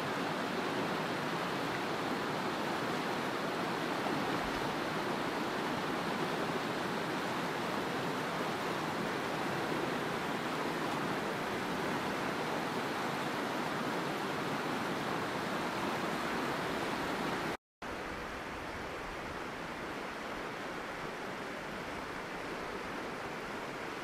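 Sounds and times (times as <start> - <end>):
stream flowing over rock: 0.0 - 24.0.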